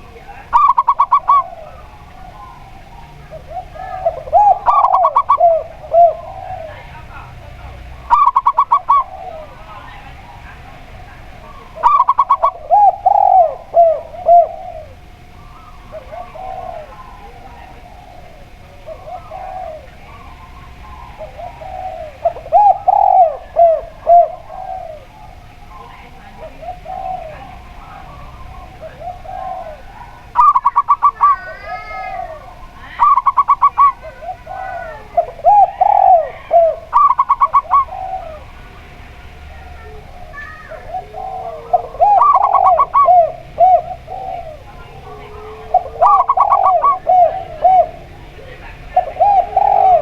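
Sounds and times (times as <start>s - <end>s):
doves cooing: 0.0s - 50.0s.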